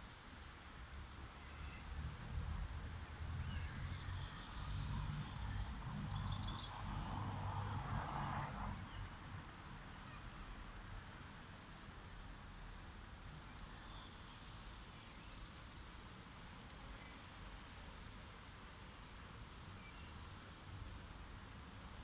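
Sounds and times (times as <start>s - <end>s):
light road traffic rumble: 0.0s - 22.0s.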